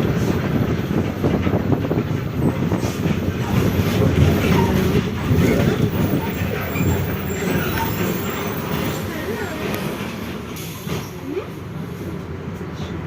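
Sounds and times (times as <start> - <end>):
bus drivetrain rumble and rattle: 0.0 - 13.0.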